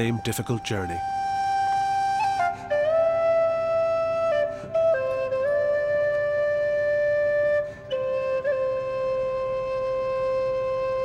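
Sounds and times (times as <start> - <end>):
flute-like wind instrument: 0.0 - 11.0.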